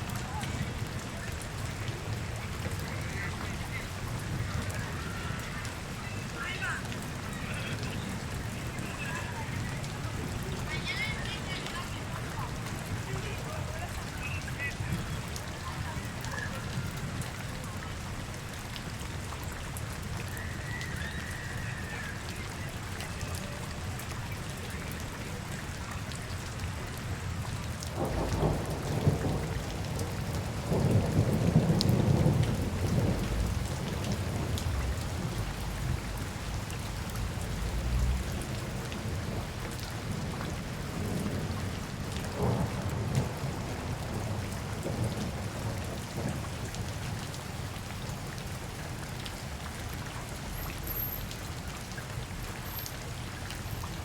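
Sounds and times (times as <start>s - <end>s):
rain spattering on hard surfaces: 0.0s - 54.0s.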